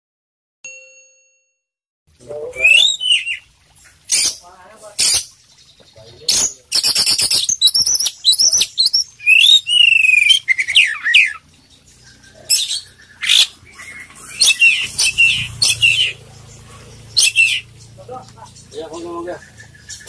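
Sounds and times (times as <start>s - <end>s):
magpie-robin singing: 2.5s - 3.5s, 4.1s - 20.0s.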